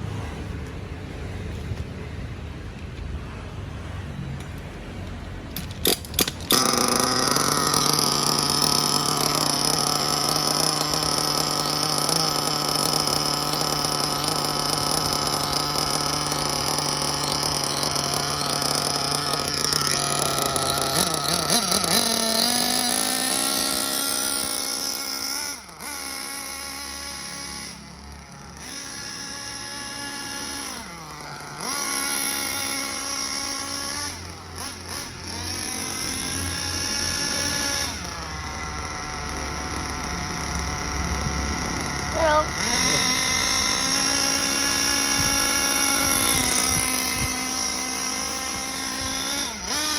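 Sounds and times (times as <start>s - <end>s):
small nitro engine buzzing: 5.5s - 49.9s.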